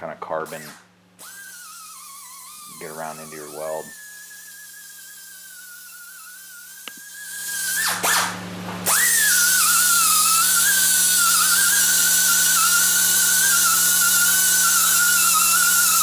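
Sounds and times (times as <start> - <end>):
die grinder high-pitched whine: 0.5 - 16.0.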